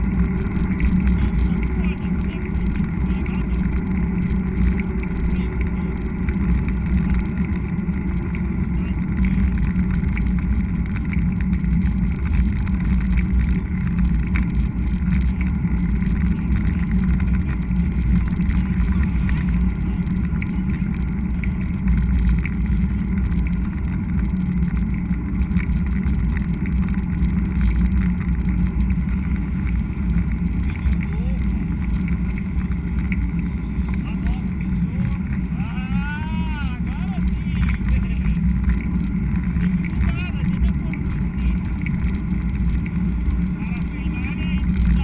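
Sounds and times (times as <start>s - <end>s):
bike tyres on trail: 0.0s - 45.0s
wind rumble on microphone: 0.0s - 45.0s.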